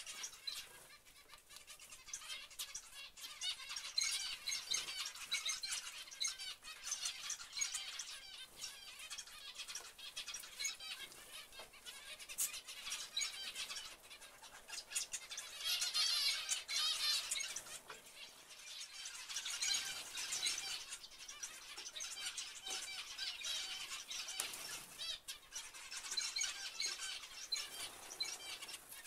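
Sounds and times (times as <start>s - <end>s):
finches chirping: 0.0s - 29.0s.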